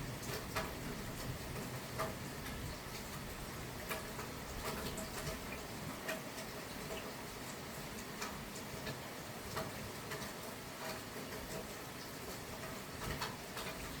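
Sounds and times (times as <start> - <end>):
rain hissing: 0.0 - 14.0
raindrops ticking on hard surface: 0.0 - 14.0.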